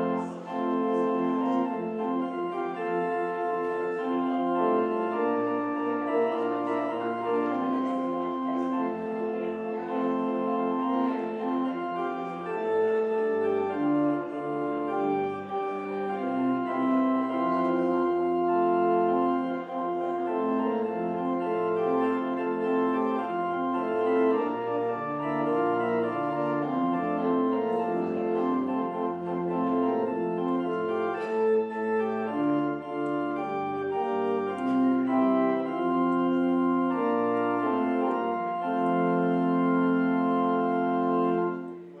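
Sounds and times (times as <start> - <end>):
organ playing sustained chords: 0.0 - 42.0.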